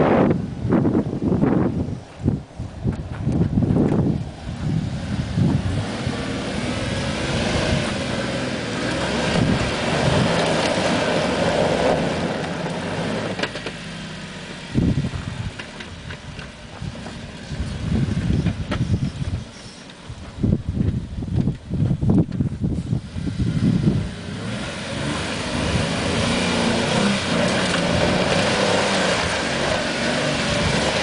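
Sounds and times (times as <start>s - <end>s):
engine running hard: 0.0s - 31.0s.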